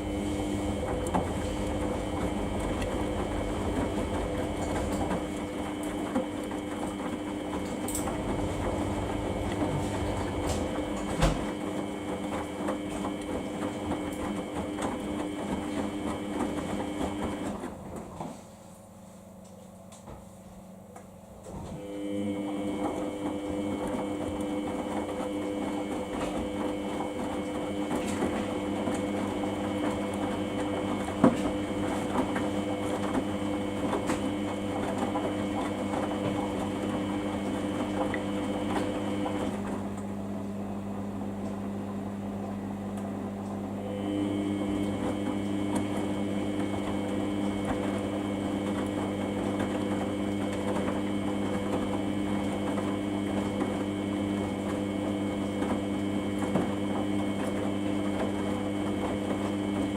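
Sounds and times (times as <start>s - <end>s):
washing machine motor hum and whine: 0.0s - 59.9s.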